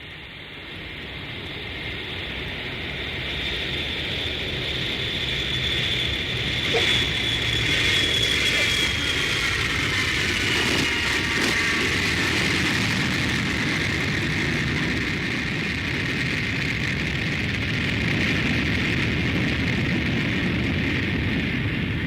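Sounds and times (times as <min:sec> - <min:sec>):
airplane engine rumble and whine: 0:00.0 - 0:22.0.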